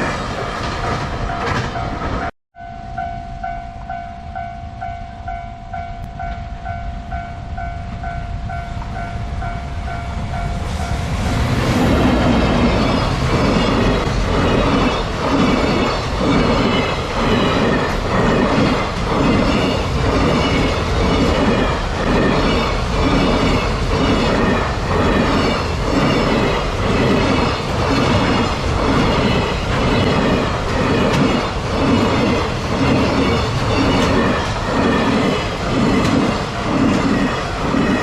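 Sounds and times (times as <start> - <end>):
train wheels clattering on rails: 0.0 - 2.3, 8.6 - 38.0.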